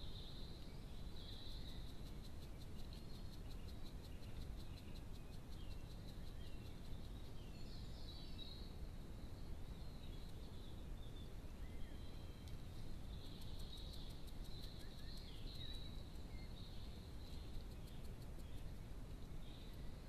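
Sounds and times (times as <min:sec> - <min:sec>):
microphone hiss and rumble: 0:00.0 - 0:20.0.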